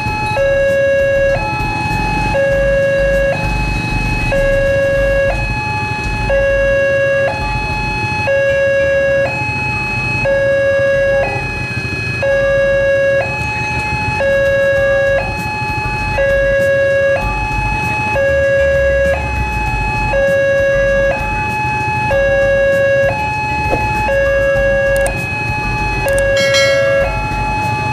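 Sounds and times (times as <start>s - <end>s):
level-crossing two-tone alarm: 0.0s - 27.9s.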